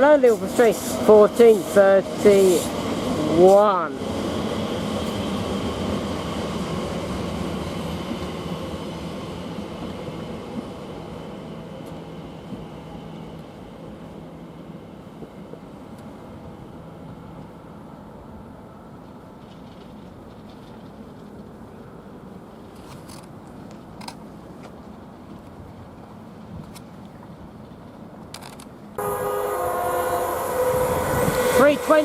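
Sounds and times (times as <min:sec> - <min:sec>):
electric train rumble and hum: 0:00.0 - 0:32.0.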